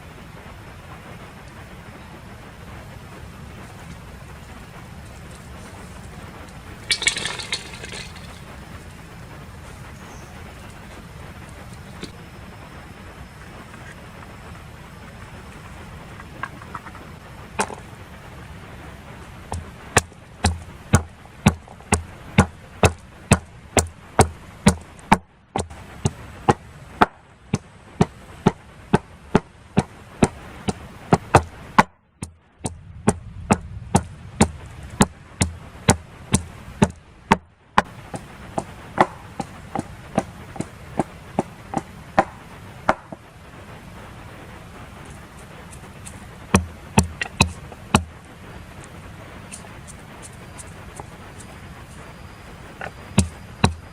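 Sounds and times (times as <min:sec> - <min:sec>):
rain-like background noise: 0:00.0 - 0:53.9.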